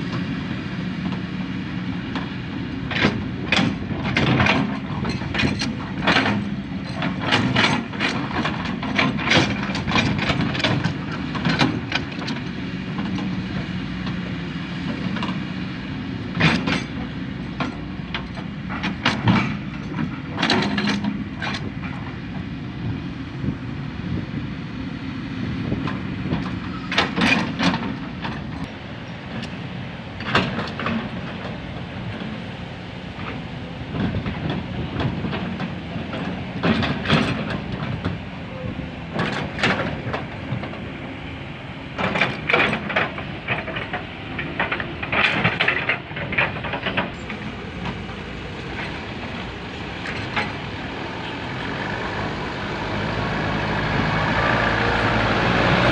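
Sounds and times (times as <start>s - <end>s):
diesel excavator engine running: 0.0s - 55.9s.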